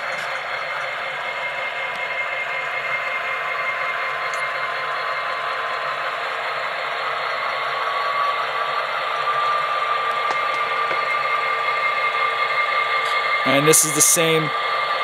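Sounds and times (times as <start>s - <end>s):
diesel engine sound from speaker: 0.0s - 15.0s
model train motor hum and whine: 0.0s - 15.0s.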